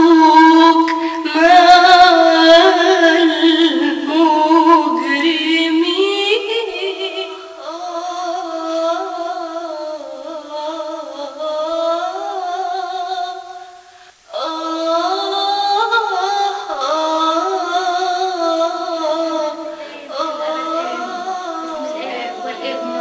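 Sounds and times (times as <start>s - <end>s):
woman singing a slow hymn: 0.0s - 23.0s.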